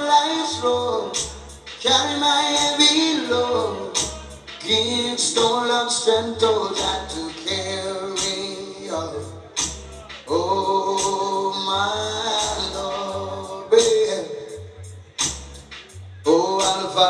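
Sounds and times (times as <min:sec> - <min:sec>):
man singing: 0:00.0 - 0:15.2, 0:16.2 - 0:17.0
deep bass line: 0:00.0 - 0:17.0
ticking cymbals: 0:00.0 - 0:17.0.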